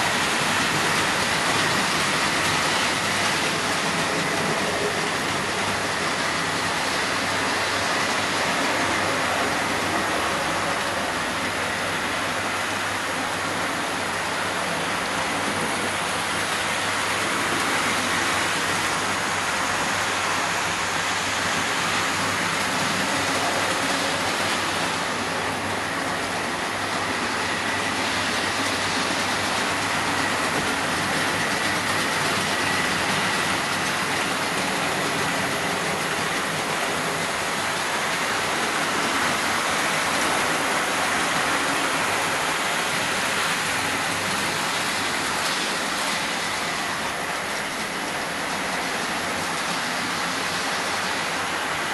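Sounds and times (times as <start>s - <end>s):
model train wheels rushing on track: 0.0s - 51.9s.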